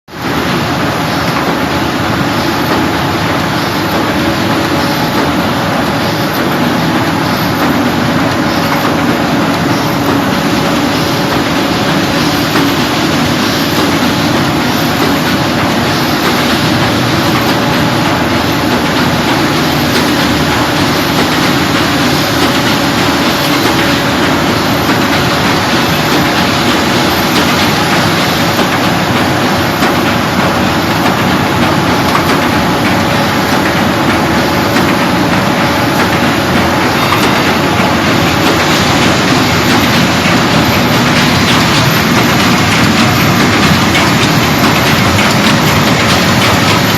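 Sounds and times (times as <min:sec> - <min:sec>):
bag making machine running: 0:00.1 - 0:46.9.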